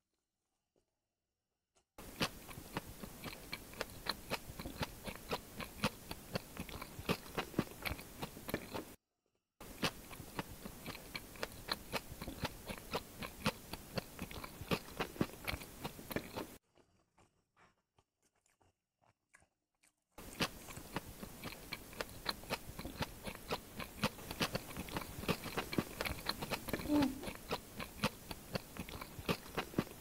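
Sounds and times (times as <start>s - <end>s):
chewing food with crackling clicks: 2.0s - 9.0s, 9.6s - 30.0s.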